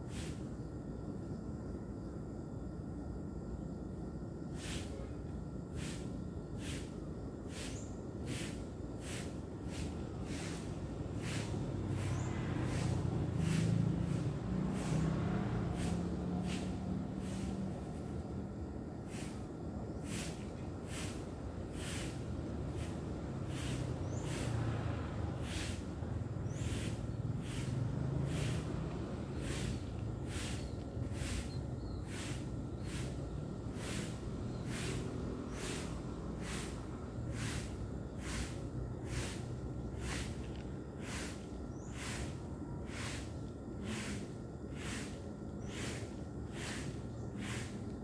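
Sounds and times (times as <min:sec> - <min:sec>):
broom sweeping: 0:00.1 - 0:00.5, 0:04.5 - 0:05.0, 0:05.7 - 0:18.4, 0:19.0 - 0:48.0
steady low rumble: 0:05.2 - 0:48.0.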